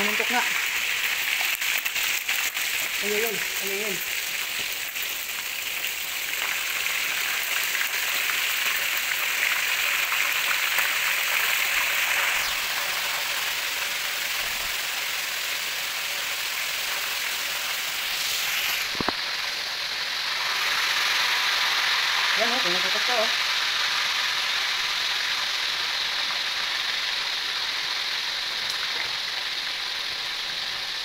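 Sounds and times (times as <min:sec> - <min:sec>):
meat deep-frying in oil: 0:00.0 - 0:31.0.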